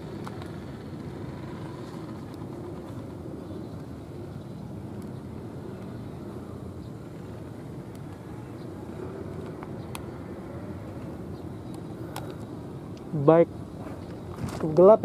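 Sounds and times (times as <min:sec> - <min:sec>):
distant low engine rumble: 0:00.0 - 0:15.0.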